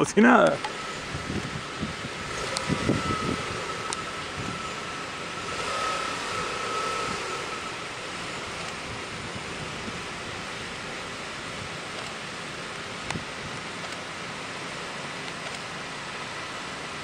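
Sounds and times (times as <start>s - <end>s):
car engine under load: 0.0s - 17.0s
faint steady whine: 0.0s - 17.0s.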